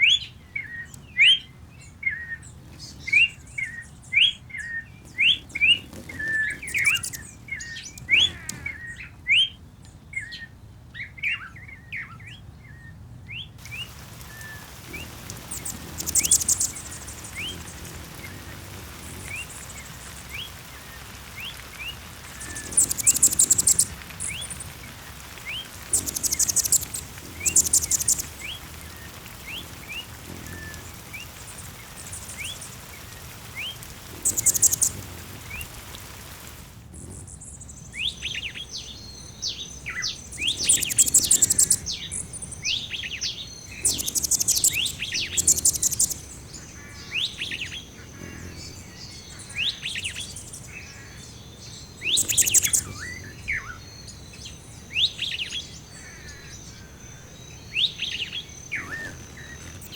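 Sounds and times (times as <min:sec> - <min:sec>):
birds trilling and chirping: 0:00.0 - 0:59.9.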